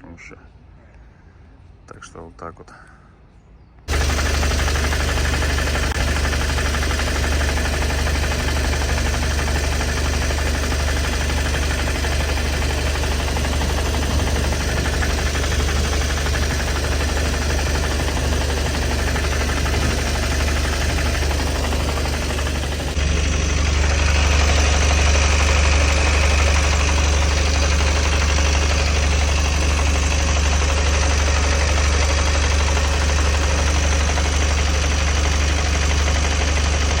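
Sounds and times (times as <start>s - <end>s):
van engine idling: 3.9s - 37.0s.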